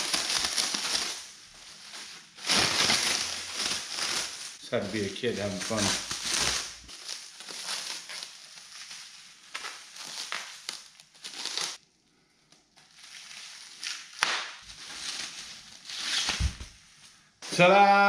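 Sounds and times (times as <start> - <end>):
plastic wrap crinkling: 0.0 - 11.8, 12.6 - 17.6.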